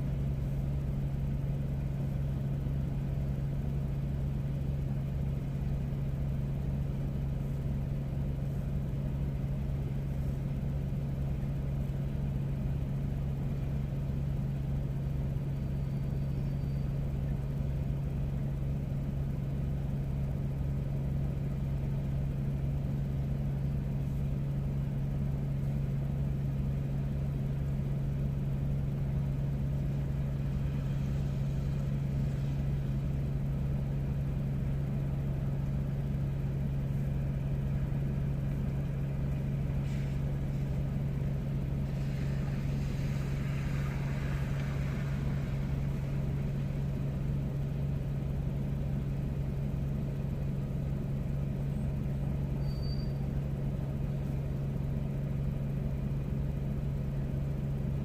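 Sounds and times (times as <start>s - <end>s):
low motor hum: 0.0s - 58.0s.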